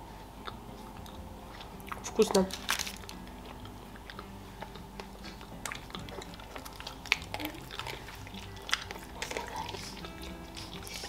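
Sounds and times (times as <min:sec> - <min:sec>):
wet chewing clicks and smacks: 0:00.4 - 0:11.0.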